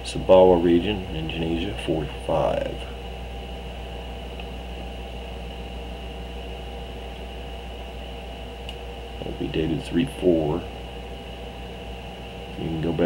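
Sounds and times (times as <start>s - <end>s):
low mains hum: 0.0s - 13.0s
thin high whine: 0.0s - 13.0s.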